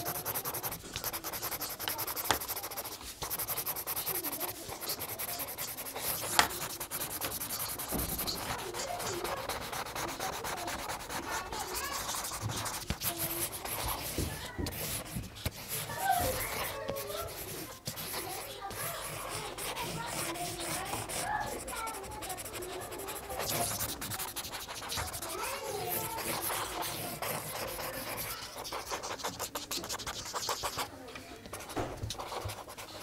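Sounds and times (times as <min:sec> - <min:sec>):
marker tips scratching on paper: 0:00.0 - 0:33.0.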